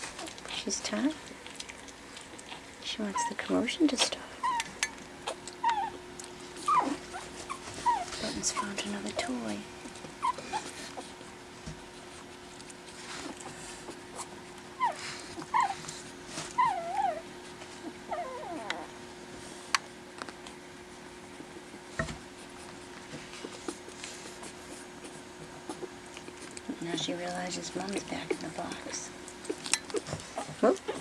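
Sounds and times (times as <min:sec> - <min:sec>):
puppy whining: 0:00.0 - 0:11.4, 0:12.0 - 0:19.0, 0:22.4 - 0:31.0.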